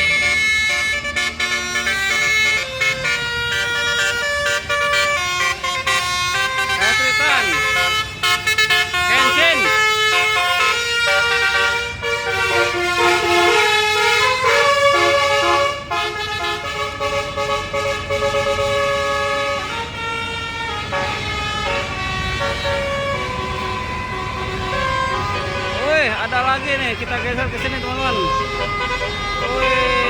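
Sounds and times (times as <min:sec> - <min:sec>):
bus air horn playing a tune: 0:00.0 - 0:30.0
engine and traffic rumble: 0:00.0 - 0:30.0.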